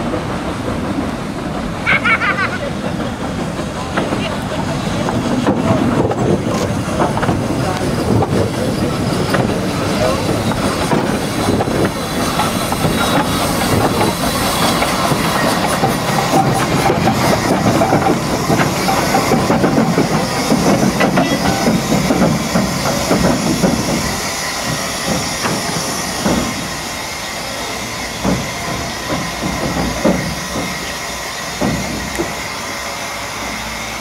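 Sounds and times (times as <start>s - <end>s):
steam locomotive hissing: 0.0s - 34.0s.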